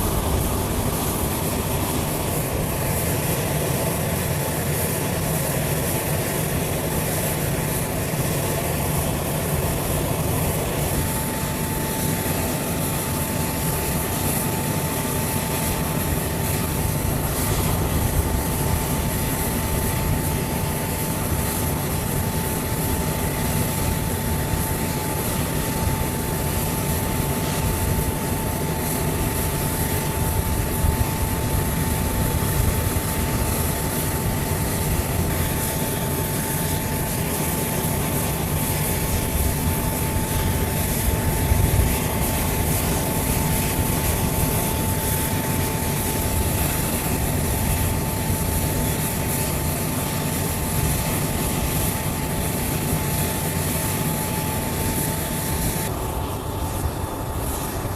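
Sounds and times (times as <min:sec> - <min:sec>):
aircraft engines running: 0:00.0 - 0:57.9
thin steady whine: 0:00.0 - 0:57.9.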